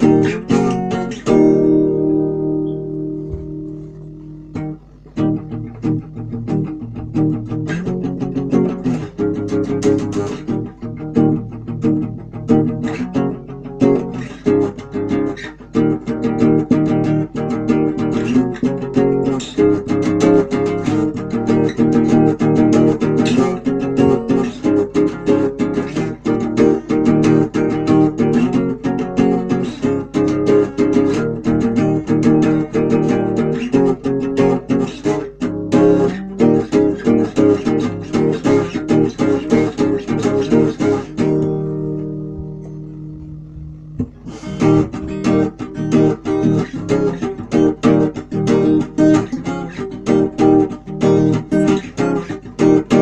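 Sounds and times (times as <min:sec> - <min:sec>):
guitar strumming chords: 0:00.0 - 0:53.0.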